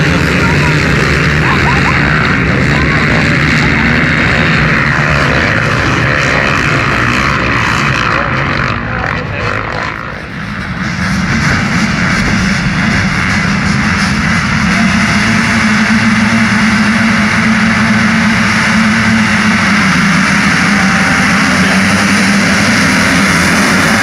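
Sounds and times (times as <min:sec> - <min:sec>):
motocross bikes running: 0:00.0 - 0:24.0.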